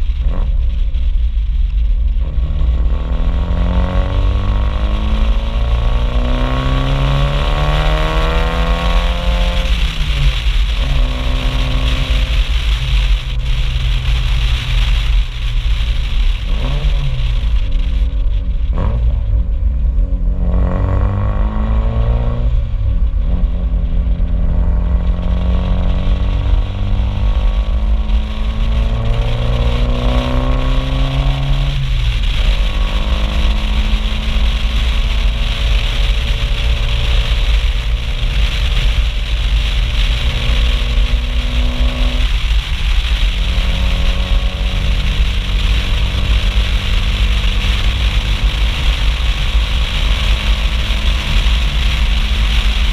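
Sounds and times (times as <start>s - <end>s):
car exhaust accelerating: 0.0s - 52.9s
wind rumble on microphone: 0.0s - 52.9s.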